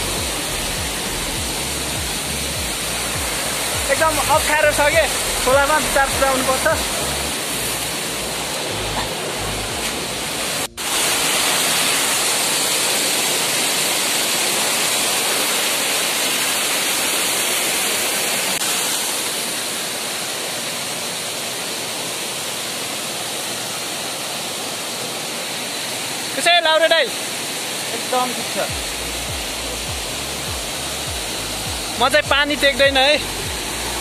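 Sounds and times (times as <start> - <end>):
stream rushing over boulders: 0.0 - 34.0.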